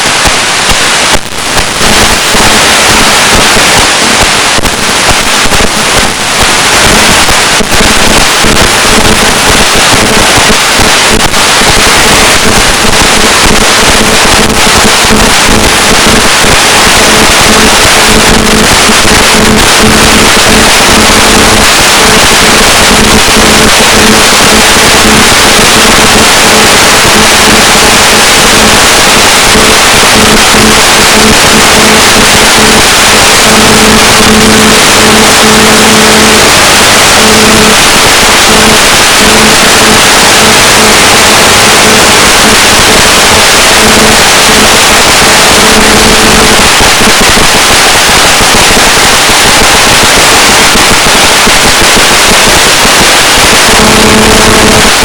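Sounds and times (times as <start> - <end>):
buzzing interference hum: 0.0 - 55.0
static hiss: 0.0 - 55.0.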